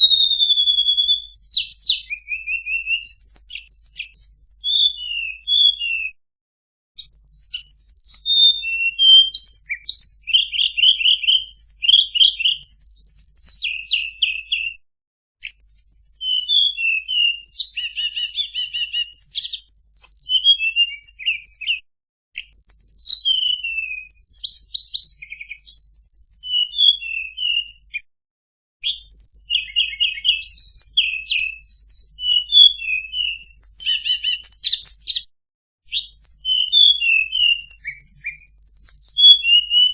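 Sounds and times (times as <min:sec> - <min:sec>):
songbird singing: 0:00.0 - 0:06.1, 0:07.0 - 0:14.8, 0:15.5 - 0:21.8, 0:22.4 - 0:28.0, 0:28.8 - 0:35.2, 0:35.9 - 0:39.9.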